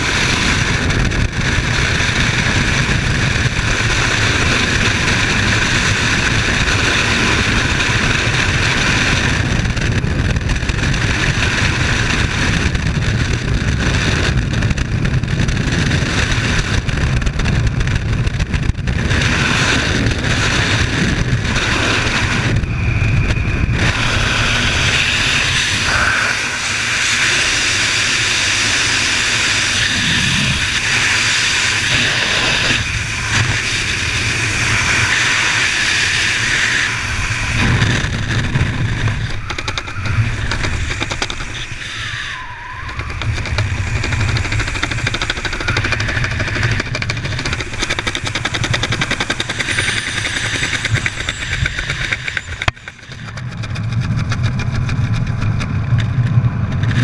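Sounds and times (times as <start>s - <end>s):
loud wind buffeting microphone: 0.0s - 57.0s.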